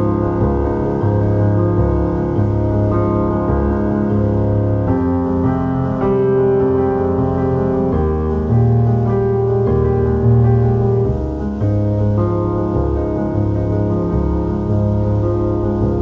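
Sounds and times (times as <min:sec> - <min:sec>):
slow keyboard chords: 0:00.0 - 0:16.0.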